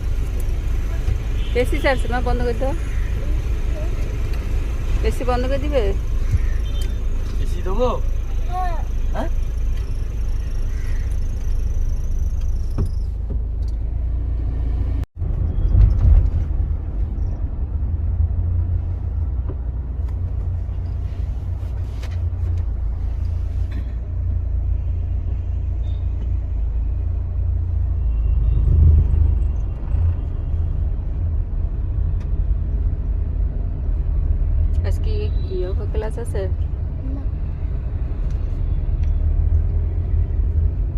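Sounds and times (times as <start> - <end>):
car cabin road and engine rumble: 0.0 - 40.9.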